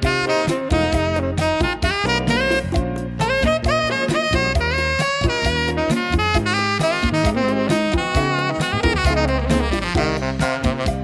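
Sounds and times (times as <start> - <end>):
saxophone melody: 0.0 - 11.0
walking bass line: 0.0 - 11.0.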